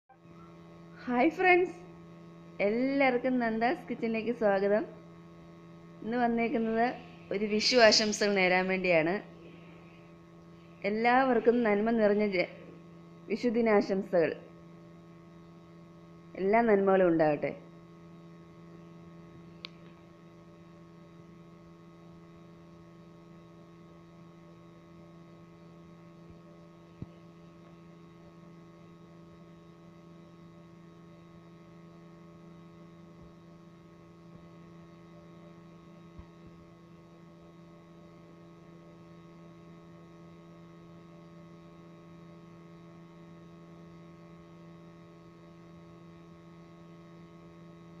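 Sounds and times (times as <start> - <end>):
electrical hum: 0.1 - 48.0.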